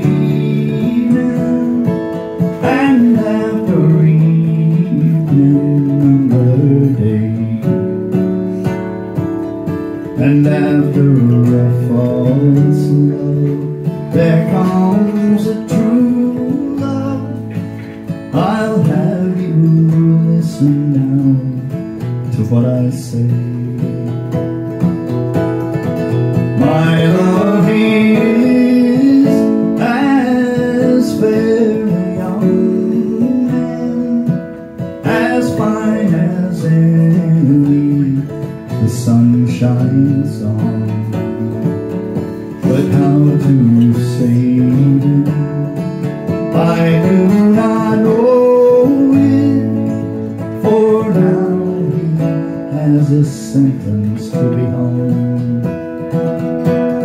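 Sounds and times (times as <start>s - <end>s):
acoustic guitar strumming: 0.0s - 57.0s
person singing folk ballad: 0.0s - 57.0s.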